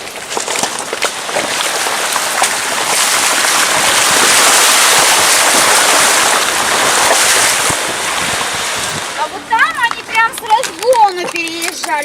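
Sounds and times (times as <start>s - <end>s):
water splashing against car: 0.0s - 12.0s.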